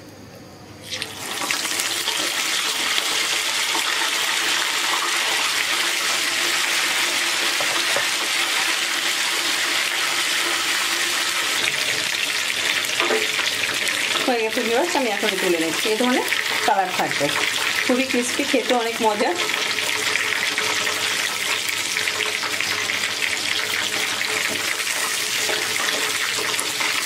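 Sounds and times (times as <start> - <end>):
chicken sizzling in hot oil: 0.8 - 27.0.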